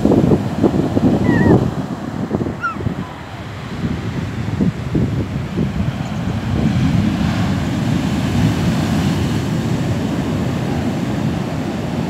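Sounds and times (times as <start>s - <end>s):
sea waves breaking: 0.0s - 12.0s
wind on microphone: 0.0s - 12.0s.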